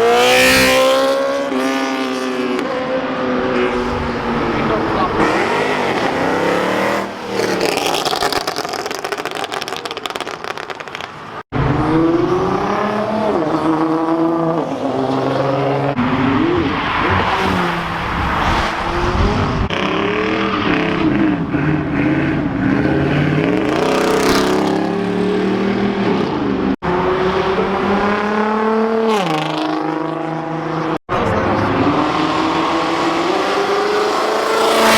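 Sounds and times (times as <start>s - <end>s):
car engines revving hard: 0.0s - 34.9s.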